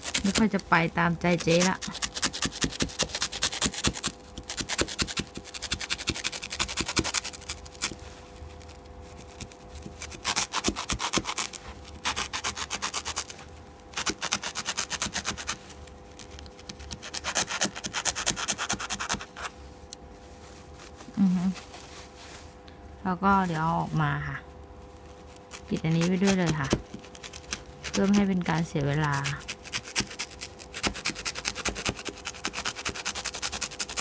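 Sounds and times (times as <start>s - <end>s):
blade sawing through sponge: 0.0s - 8.0s, 8.6s - 19.5s, 25.0s - 34.0s.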